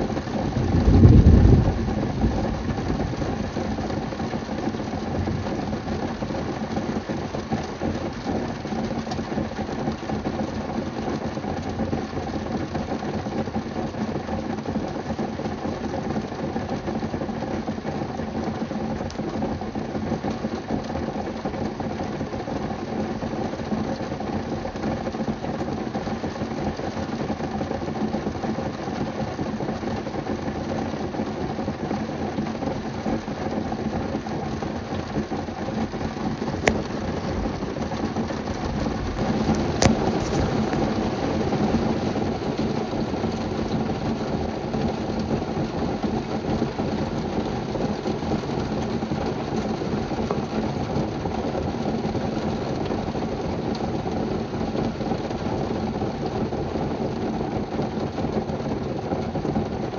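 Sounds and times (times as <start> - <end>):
heavy rain drumming on car roof: 0.0 - 59.9.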